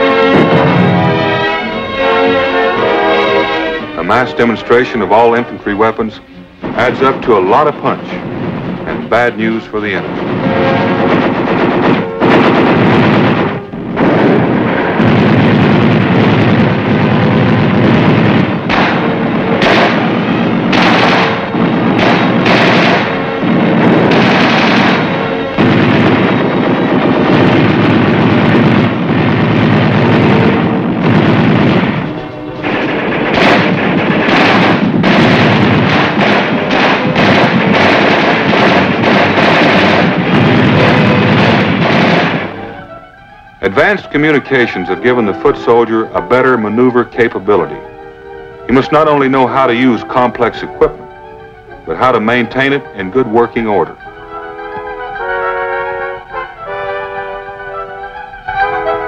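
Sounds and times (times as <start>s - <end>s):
many guns firing: 0.0s - 59.0s.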